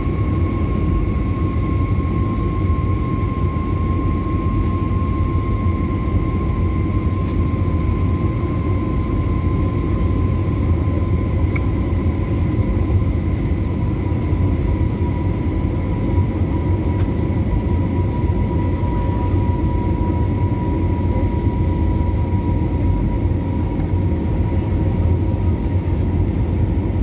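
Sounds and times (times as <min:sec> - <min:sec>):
jet engines and airflow rumble: 0:00.0 - 0:27.0
thin steady whine: 0:00.0 - 0:27.0.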